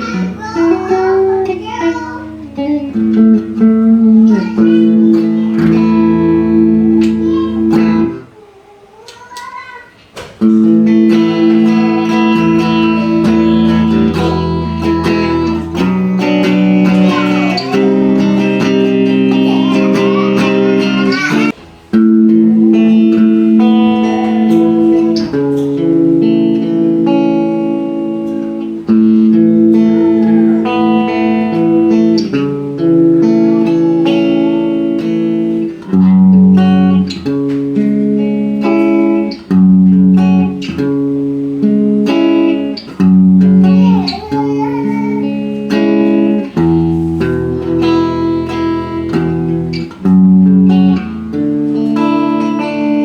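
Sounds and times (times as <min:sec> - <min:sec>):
electric guitar chords and notes: 0:00.0 - 0:08.4, 0:10.2 - 0:53.0.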